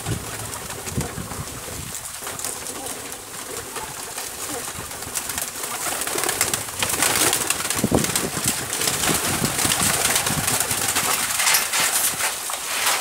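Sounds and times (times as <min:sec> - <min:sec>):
pigeons cooing: 0:00.0 - 0:12.2
pecking clicks and rustles: 0:00.0 - 0:13.0
wing flaps: 0:00.0 - 0:13.0.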